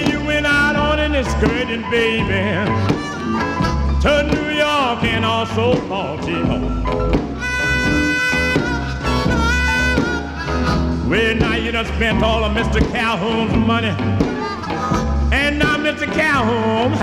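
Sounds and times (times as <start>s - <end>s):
bending lead guitar line: 0.0s - 17.0s
blues band playing: 0.0s - 17.0s.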